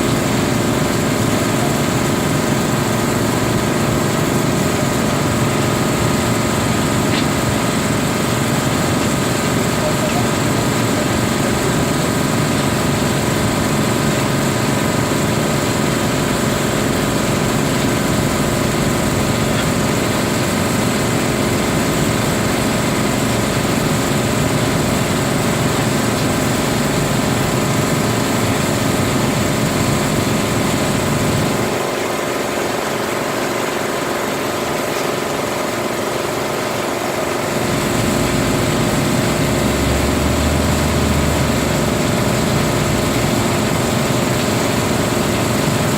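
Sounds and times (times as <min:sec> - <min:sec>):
heavy machinery droning: 0:00.0 - 0:32.2, 0:36.9 - 0:45.9.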